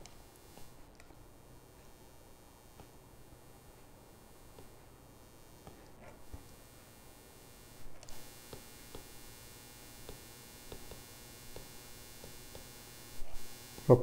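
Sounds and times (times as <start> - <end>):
low background hum and hiss: 0.0 - 14.0.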